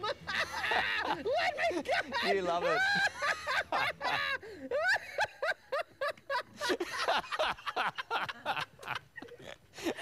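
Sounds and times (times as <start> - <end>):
man laughing: 0.0 - 10.0.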